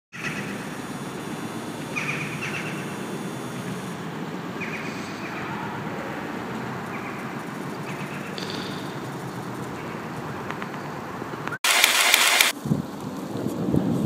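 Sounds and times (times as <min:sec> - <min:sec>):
birds chirping: 0:00.1 - 0:11.6.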